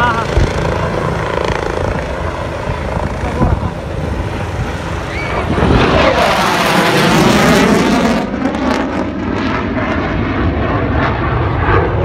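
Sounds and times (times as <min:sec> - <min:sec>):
jet fighter flying past: 0:00.0 - 0:12.0.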